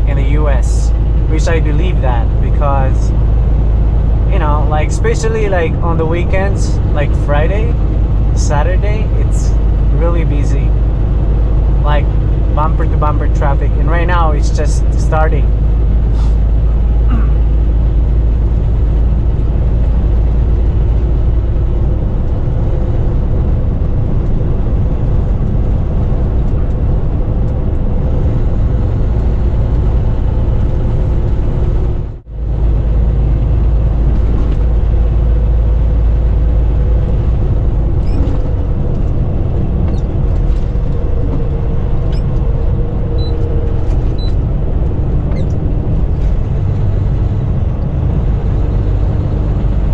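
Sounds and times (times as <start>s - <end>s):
truck engine and road rumble: 0.0s - 49.9s.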